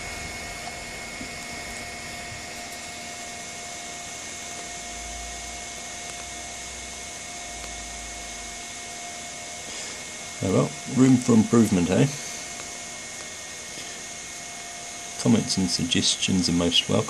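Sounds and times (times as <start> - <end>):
cooling fans whirring: 0.0 - 17.0
thin whining tones: 0.0 - 17.0.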